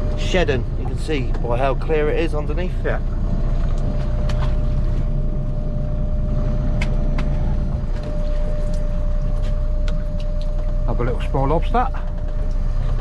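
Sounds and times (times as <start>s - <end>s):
boat engine rumbling: 0.0s - 13.0s
constant hum-like tone: 0.0s - 13.0s.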